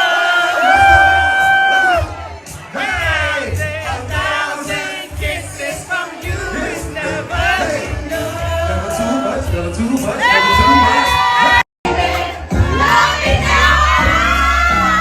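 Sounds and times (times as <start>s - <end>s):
singing over heavy bass beat: 0.0s - 15.0s.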